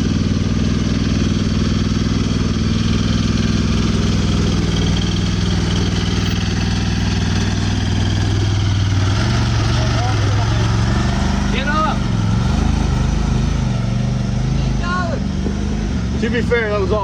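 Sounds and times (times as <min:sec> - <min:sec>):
vehicle engine at low revs: 0:00.0 - 0:17.0.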